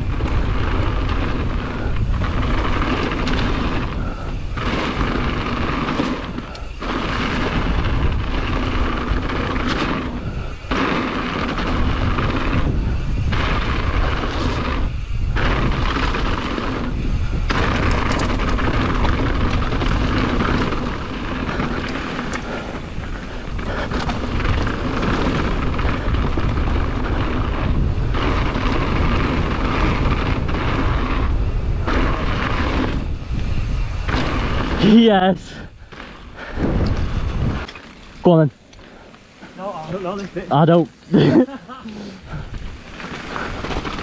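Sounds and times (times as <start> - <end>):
bike tyres crunching over gravel: 0.0 - 44.0
wind buffeting microphone: 0.0 - 44.0.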